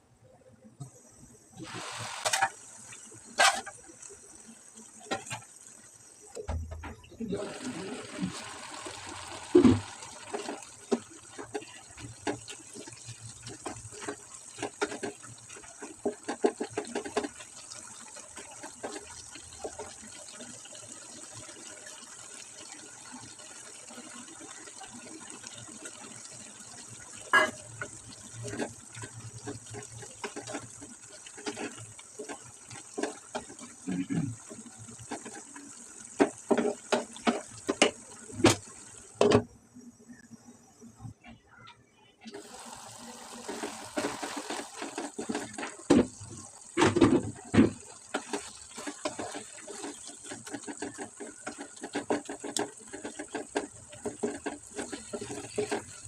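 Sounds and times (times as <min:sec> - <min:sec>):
cabbage sizzling in a pan: 0:01.5 - 0:06.7, 0:07.3 - 0:39.3, 0:42.3 - 0:56.0.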